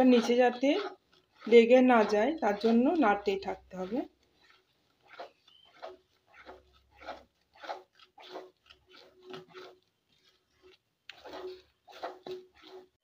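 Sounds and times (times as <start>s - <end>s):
spatula scraping a metal pan: 0.0s - 13.0s
wet squelching stirring: 0.0s - 13.0s.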